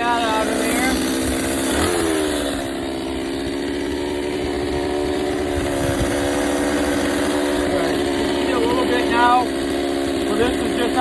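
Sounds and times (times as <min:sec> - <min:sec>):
chainsaw engine dropping in pitch: 0:00.0 - 0:11.0.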